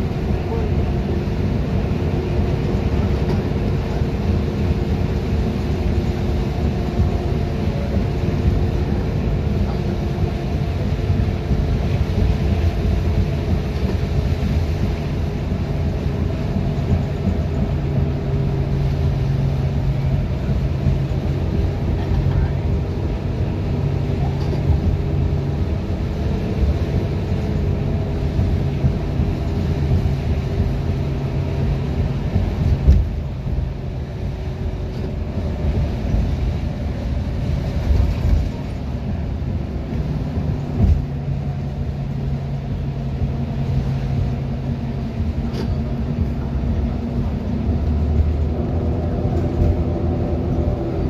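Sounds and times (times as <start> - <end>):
bus engine drone: 0.0 - 51.0
road rumble: 0.0 - 51.0.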